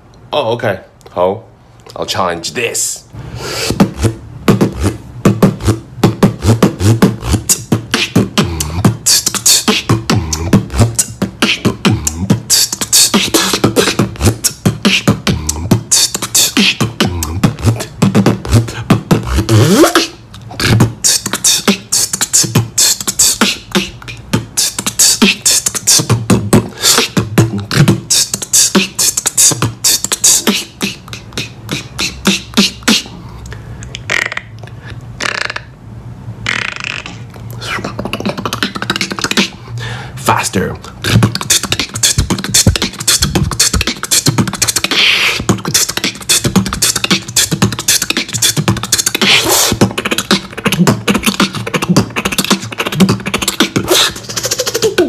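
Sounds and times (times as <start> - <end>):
person beatboxing: 2.6 - 35.7, 36.4 - 55.0.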